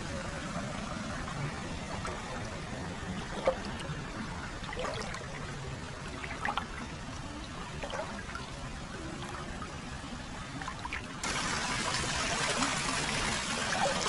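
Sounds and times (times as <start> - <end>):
water pouring and trickling: 0.0 - 14.0
water splashes and drips: 0.4 - 14.0.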